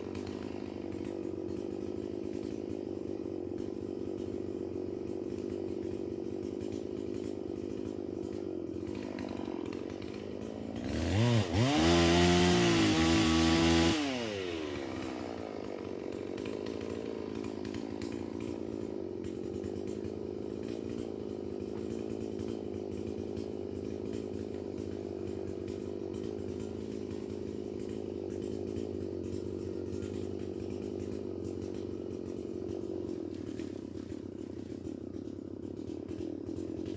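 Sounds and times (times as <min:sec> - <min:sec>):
chainsaw idling and revving: 0:00.0 - 0:36.9.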